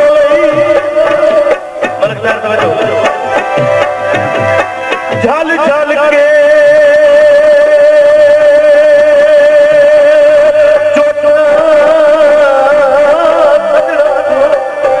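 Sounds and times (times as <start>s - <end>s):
man singing a long note: 0.0s - 3.1s, 5.3s - 15.0s
harmonium: 0.0s - 15.0s.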